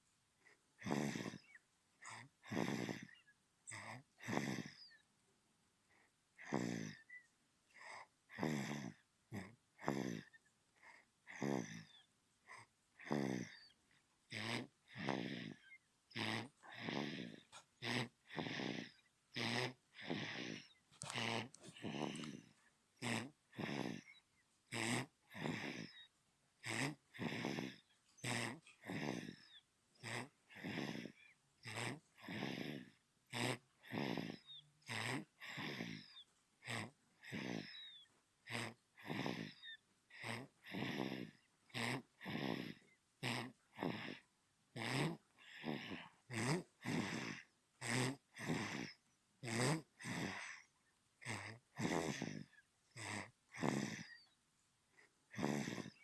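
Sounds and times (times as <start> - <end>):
baby snoring: 0.8 - 5.0, 6.4 - 54.4, 55.0 - 56.0.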